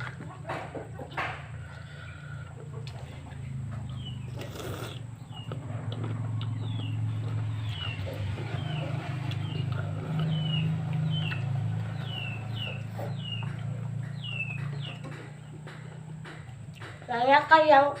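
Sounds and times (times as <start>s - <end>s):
small bird chirping: 2.0s - 17.7s.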